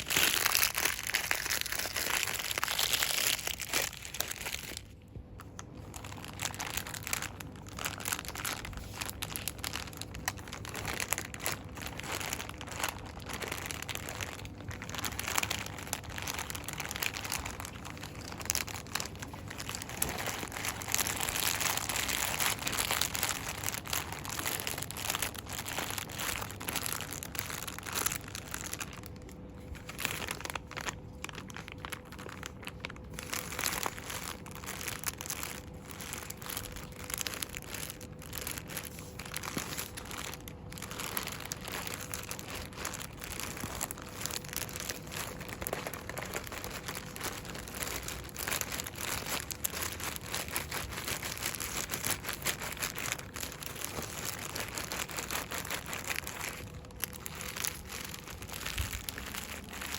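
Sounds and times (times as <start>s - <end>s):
packaging crinkling by hand: 0.0s - 59.9s.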